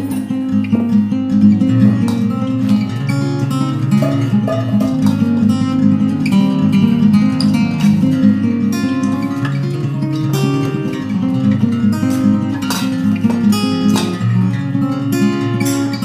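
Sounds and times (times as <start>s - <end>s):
acoustic guitar piece: 0.0s - 16.0s.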